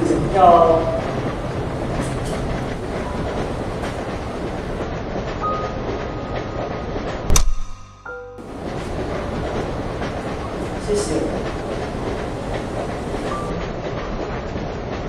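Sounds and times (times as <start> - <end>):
train carriage rumbling on rails: 0.0 - 7.4, 8.2 - 15.0.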